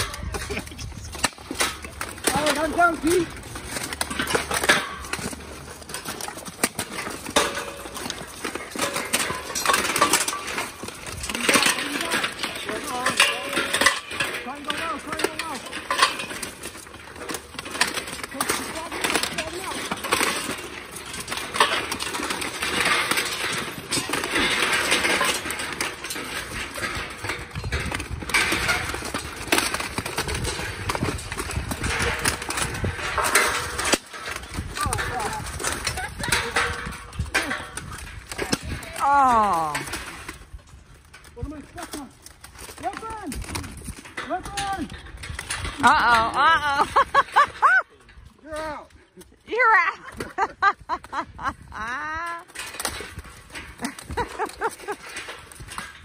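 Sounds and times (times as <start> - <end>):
armor and weapons clanking: 0.0 - 56.0
metal fence panels rattling: 0.0 - 56.0.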